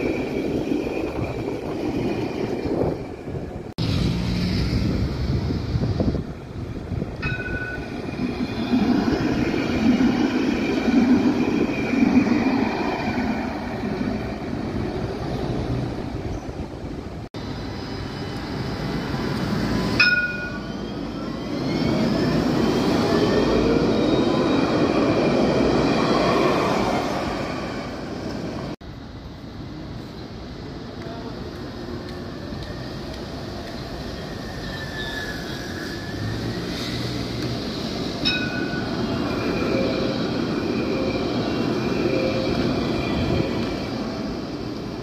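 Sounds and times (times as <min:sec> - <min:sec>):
tram wheels rumbling on rails: 0:00.0 - 0:45.0.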